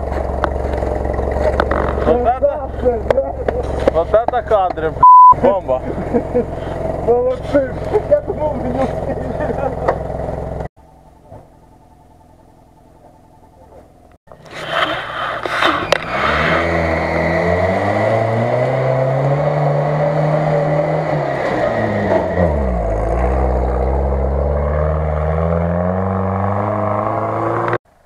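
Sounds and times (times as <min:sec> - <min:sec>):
off-road vehicle engine revving: 0:00.0 - 0:10.7, 0:14.4 - 0:27.8.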